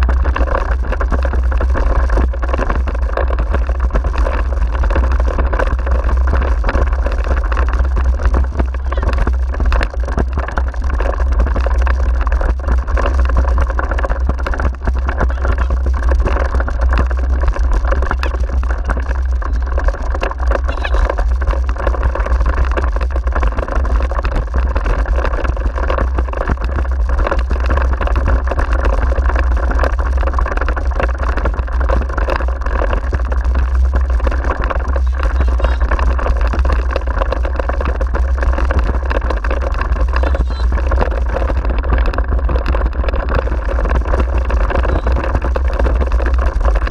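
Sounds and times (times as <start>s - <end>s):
wheeled rig rumbling over rough track: 0.0s - 46.9s.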